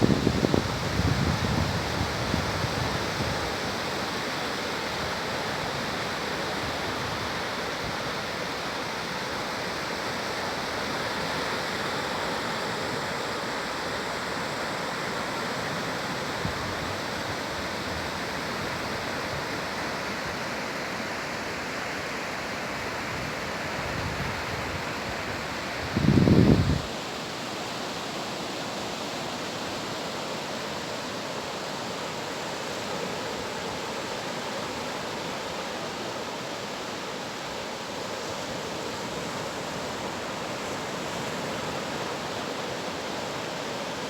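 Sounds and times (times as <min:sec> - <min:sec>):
sea surf breaking on beach: 0:00.0 - 0:44.0.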